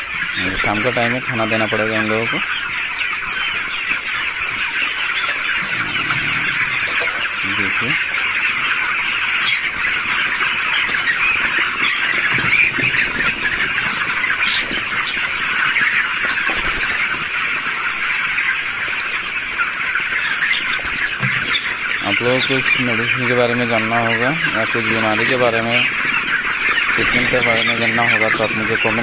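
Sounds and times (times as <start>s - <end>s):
chicks peeping and cheeping: 0.0s - 29.0s.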